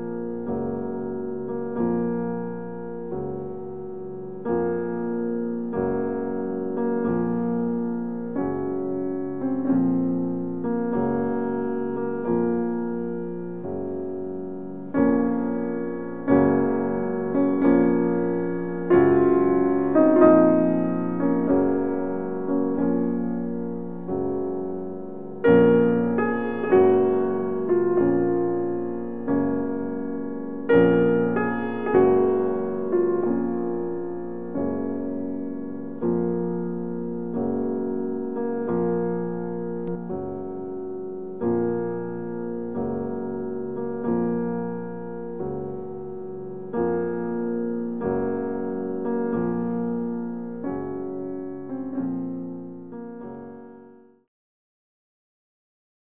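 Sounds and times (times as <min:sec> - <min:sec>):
slow solo piano chords: 0:00.0 - 0:54.2.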